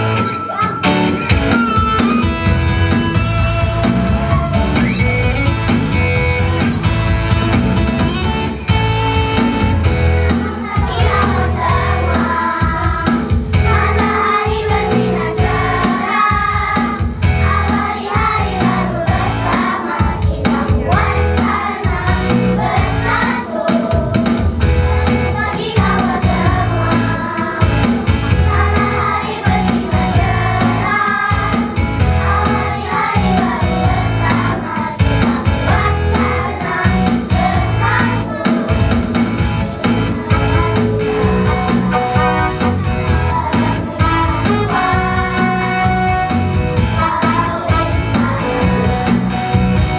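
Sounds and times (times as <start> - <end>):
children's choir singing: 0.0 - 1.2, 10.0 - 49.9
instrumental accompaniment with beat: 0.0 - 49.9.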